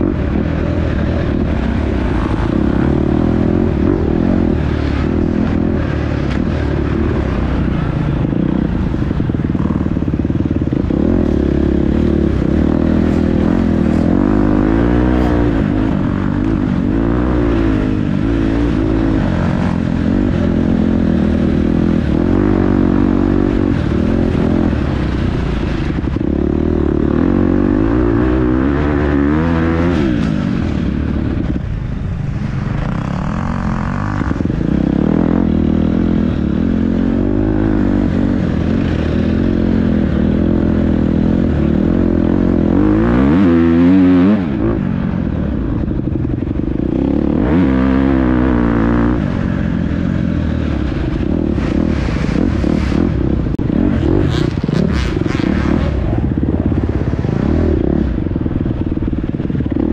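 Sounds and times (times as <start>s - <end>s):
dirt bike engine revving: 0.0s - 31.7s, 32.7s - 59.9s.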